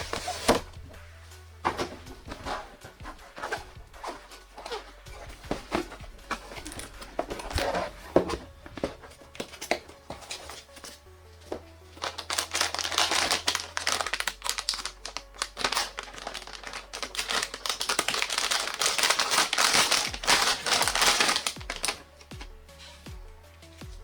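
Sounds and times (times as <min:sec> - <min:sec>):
plastic packaging crinkling: 0:00.0 - 0:23.1.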